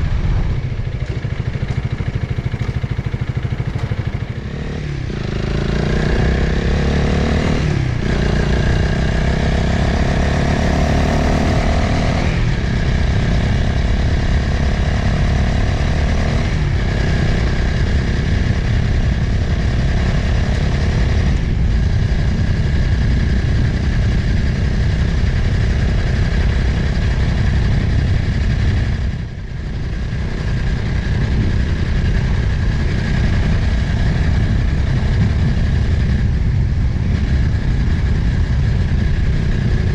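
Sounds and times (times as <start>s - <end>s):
motorcycle engine shifting gears: 0.0s - 39.9s
wind rushing over microphone: 0.0s - 39.9s.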